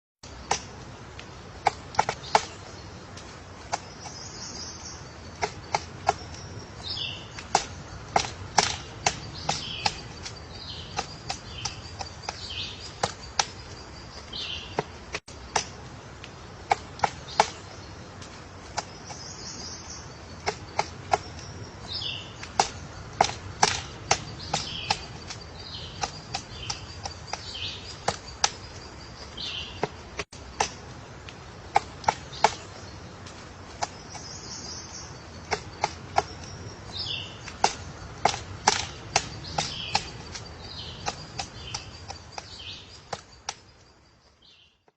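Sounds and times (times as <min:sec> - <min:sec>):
woodpecker knocking on wood: 0:00.2 - 0:44.0
high bird calls: 0:00.3 - 0:44.9.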